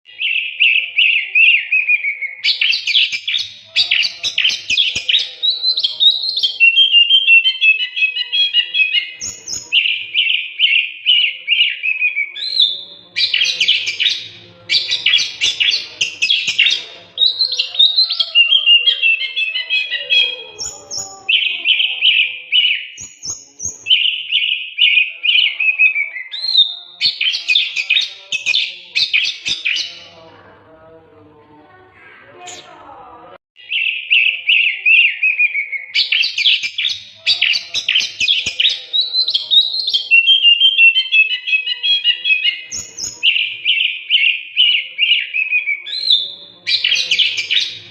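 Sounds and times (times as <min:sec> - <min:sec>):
songbird singing: 0:00.1 - 0:30.3, 0:33.6 - 0:47.9.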